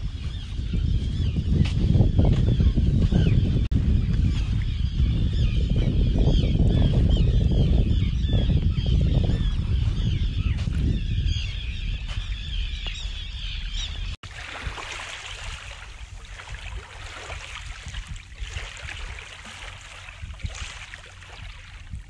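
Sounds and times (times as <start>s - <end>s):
birds calling: 0.0s - 22.0s
wind buffeting microphone: 0.0s - 22.0s.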